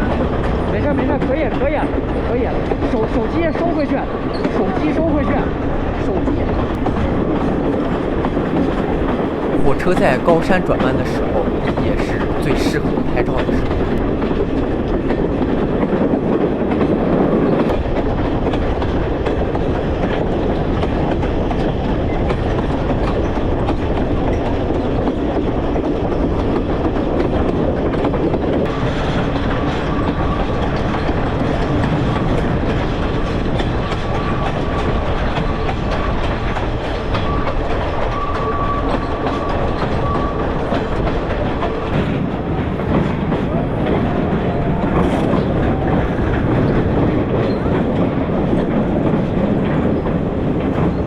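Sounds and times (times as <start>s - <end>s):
train rumble with wheel clatter: 0.0s - 51.0s.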